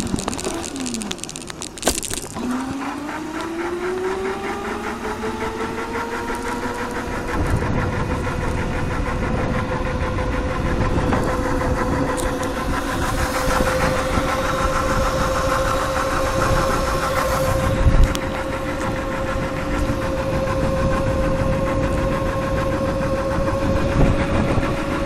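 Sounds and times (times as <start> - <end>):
electric motor and chain whining: 0.0 - 25.0.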